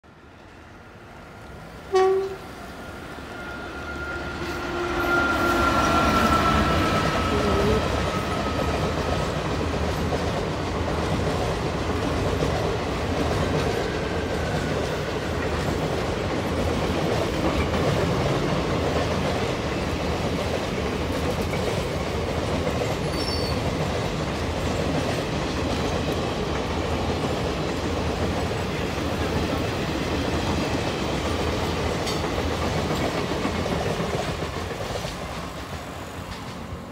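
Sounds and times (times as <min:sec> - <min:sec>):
train coaches clattering over rails: 0:04.3 - 0:36.9.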